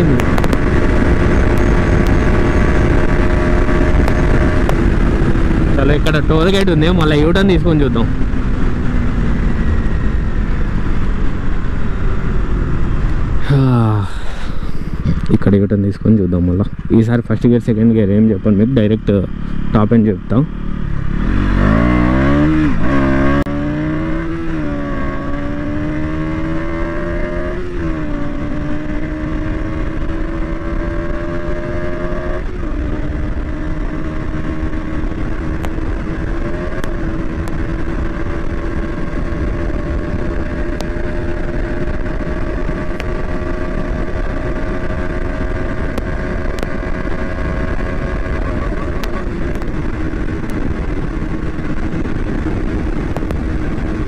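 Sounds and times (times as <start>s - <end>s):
wind rushing over microphone: 0.0s - 18.5s, 20.7s - 54.0s
motorcycle engine accelerating: 0.0s - 54.0s.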